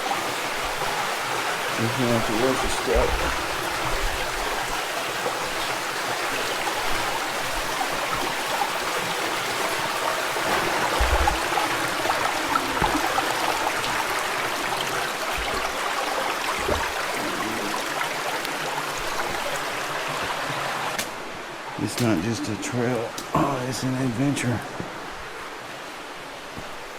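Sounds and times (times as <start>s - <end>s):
creek water flowing: 0.0s - 26.9s.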